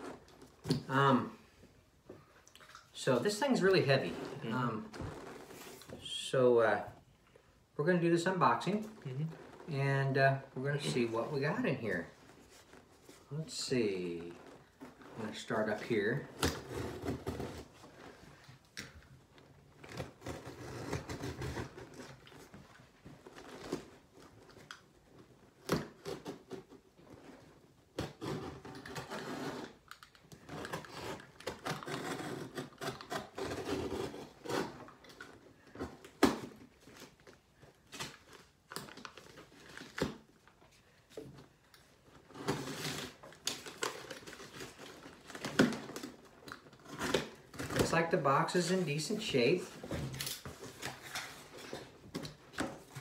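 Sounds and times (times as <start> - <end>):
cardboard and tape scraping: 3.2 - 6.2, 8.6 - 40.4, 41.1 - 53.0.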